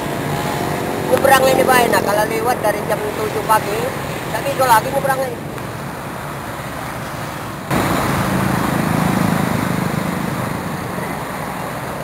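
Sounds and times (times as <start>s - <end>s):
cars passing: 0.0s - 12.0s
motorcycles passing: 0.0s - 12.0s.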